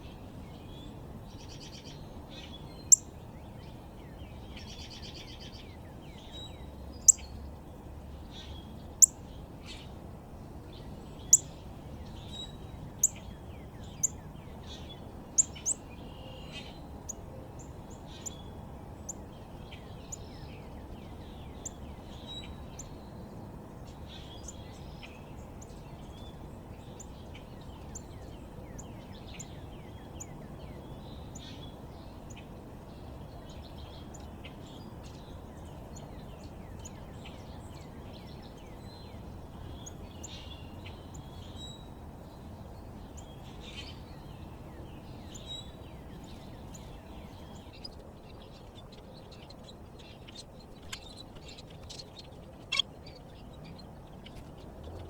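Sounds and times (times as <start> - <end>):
low outdoor background noise: 0.0 - 55.0
songbirds chirping: 0.0 - 55.0.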